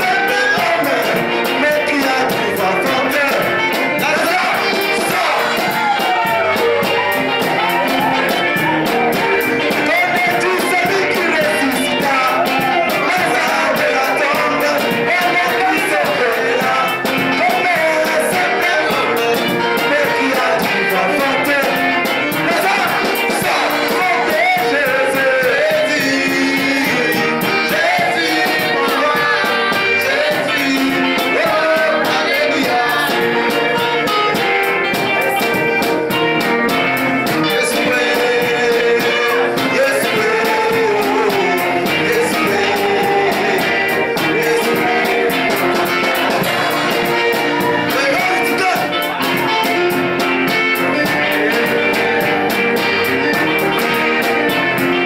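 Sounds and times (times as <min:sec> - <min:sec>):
men singing into microphones: 0:00.0 - 0:35.7, 0:36.9 - 0:54.9
acoustic-electric guitar: 0:00.0 - 0:55.0
steady beat: 0:00.0 - 0:55.0.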